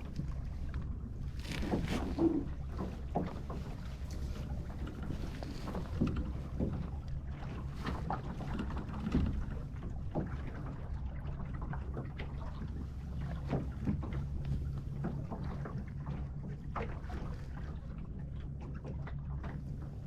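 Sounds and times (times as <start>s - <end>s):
splashes and knocks: 0.0s - 17.7s
wind rumbling on microphone: 0.0s - 18.1s
water slapping against hull: 0.0s - 20.0s.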